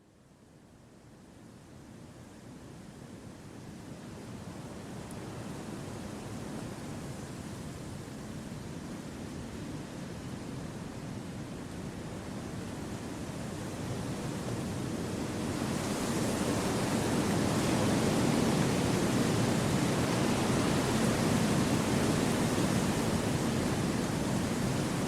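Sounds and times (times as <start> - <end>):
wind rushing through trees: 2.9 - 25.0.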